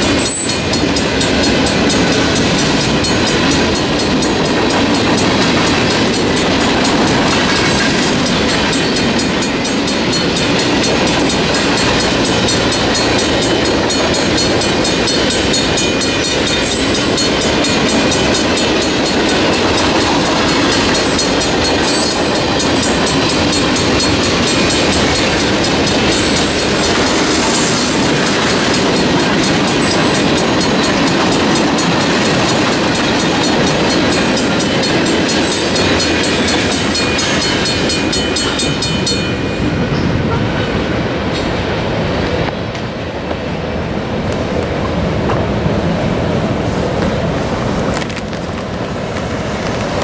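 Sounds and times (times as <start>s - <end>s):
crossing bell ringing: 0.0s - 41.7s
train wheels clacking on rails: 0.0s - 50.0s.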